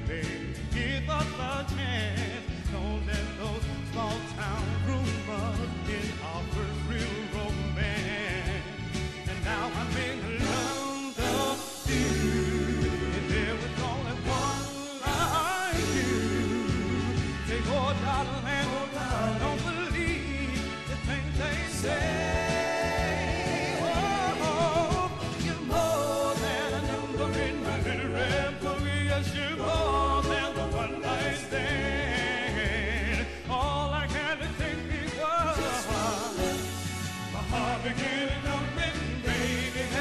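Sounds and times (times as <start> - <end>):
band playing soul music: 0.0 - 40.0
male vocal group singing: 0.0 - 40.0
steady bass line: 0.0 - 40.0
backing accompaniment: 2.8 - 40.0.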